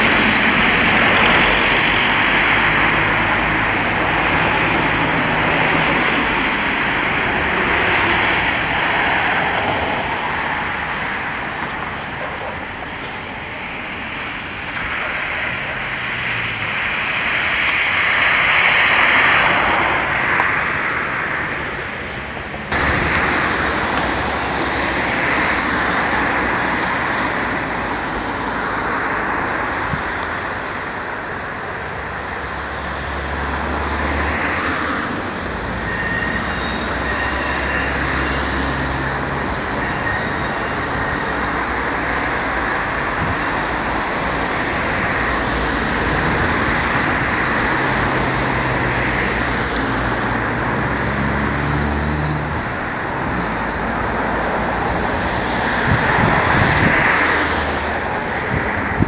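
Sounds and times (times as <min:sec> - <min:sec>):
road traffic: 0:00.0 - 0:59.0
trams running on tracks: 0:00.0 - 0:59.0.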